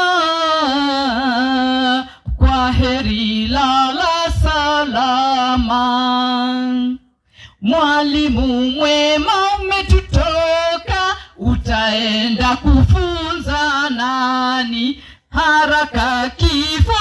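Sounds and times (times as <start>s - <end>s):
woman chanting: 0.0s - 7.0s, 7.6s - 17.0s.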